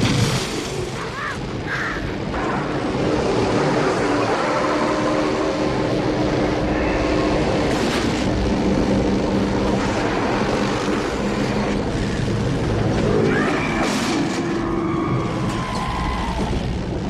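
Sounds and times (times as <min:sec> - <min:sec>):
vehicle engines running under load: 0:00.0 - 0:17.0.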